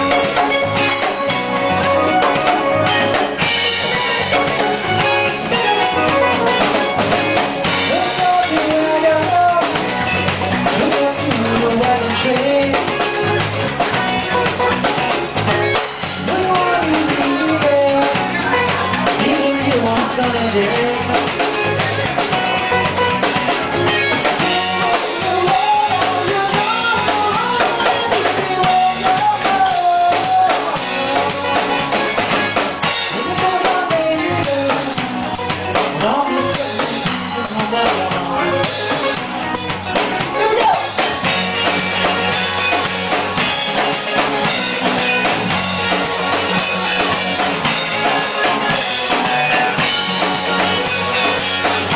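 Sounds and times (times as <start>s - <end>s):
drum kit beat: 0.0s - 51.9s
electric guitar: 0.0s - 51.9s
rock band playing: 0.0s - 51.9s.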